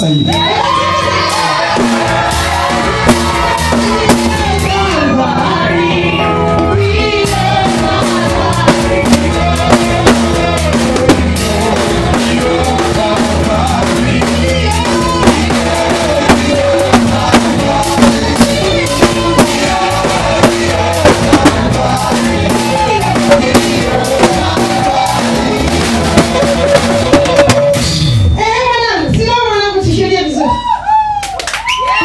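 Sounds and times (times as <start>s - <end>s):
drum kit beat: 0.0s - 29.3s
upbeat worship music: 0.0s - 30.4s.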